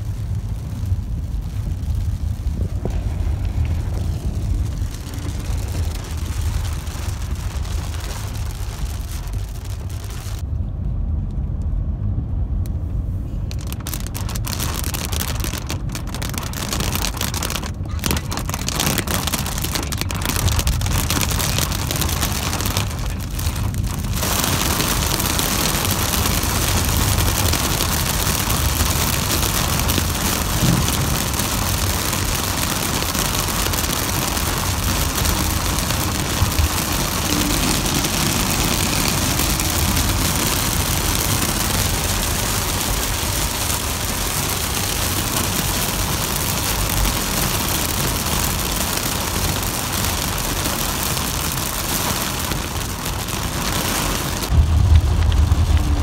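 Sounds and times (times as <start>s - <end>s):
heavy rain drumming on car roof: 0.0s - 10.4s, 13.4s - 56.0s
car driving rumble: 0.0s - 56.0s.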